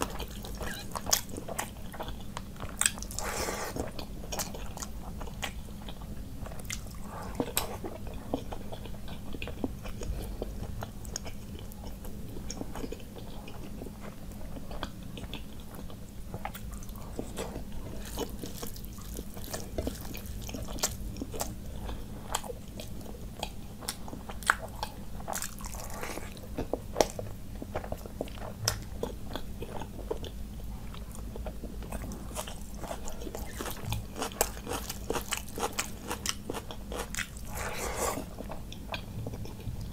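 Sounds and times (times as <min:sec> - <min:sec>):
chewing and biting food: 0:00.0 - 0:39.9
low steady hum: 0:00.0 - 0:39.9.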